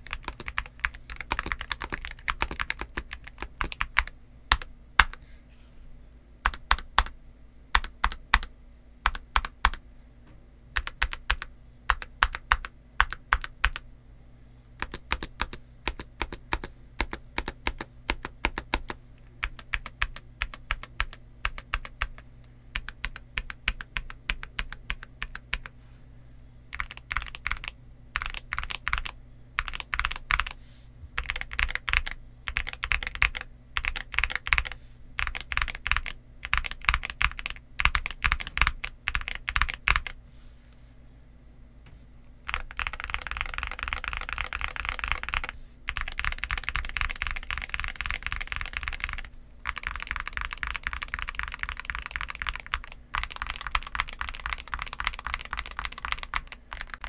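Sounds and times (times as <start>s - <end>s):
keyboard typing: 0.0s - 5.2s, 6.4s - 9.8s, 10.8s - 13.8s, 14.8s - 25.8s, 26.7s - 30.6s, 31.2s - 40.2s, 42.5s - 57.0s.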